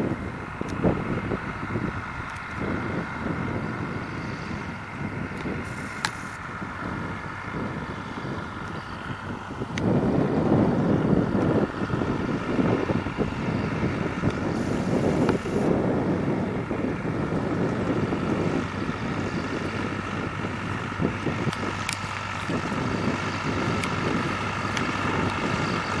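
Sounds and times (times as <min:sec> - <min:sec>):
tractor diesel engine running: 0:00.0 - 0:26.0
wind rumbling on microphone: 0:00.0 - 0:26.0.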